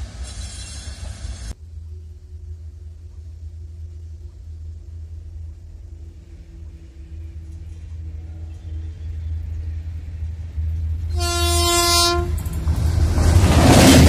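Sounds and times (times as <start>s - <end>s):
approaching train rumble: 0.0s - 14.0s.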